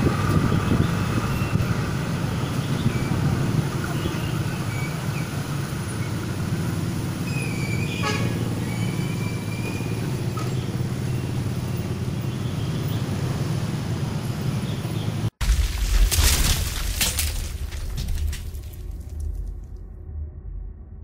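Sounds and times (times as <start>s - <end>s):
road traffic hum: 0.0s - 19.8s.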